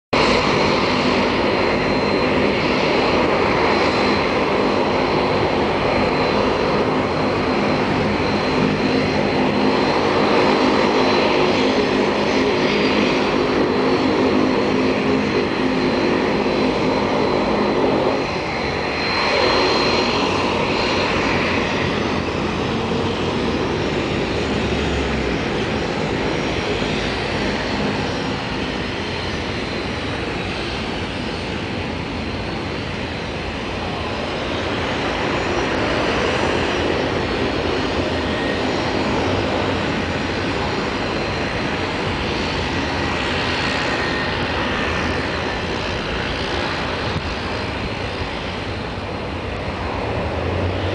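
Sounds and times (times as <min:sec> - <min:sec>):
propeller engine running: 0:00.1 - 0:50.9.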